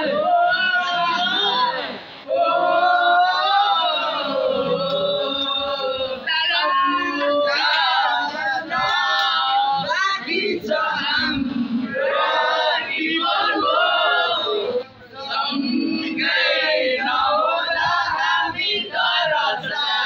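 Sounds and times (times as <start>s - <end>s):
boys singing in chorus: 0.0s - 20.0s.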